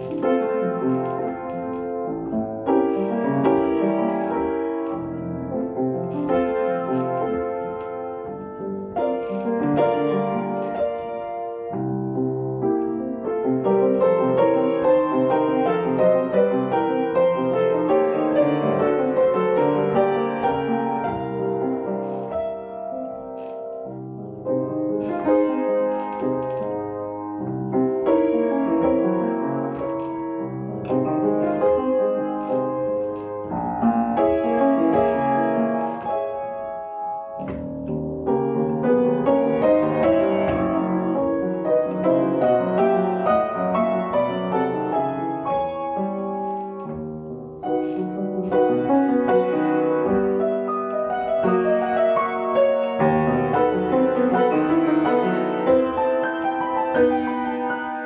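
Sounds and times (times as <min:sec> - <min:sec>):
piano melody over chords: 0:00.0 - 0:58.0.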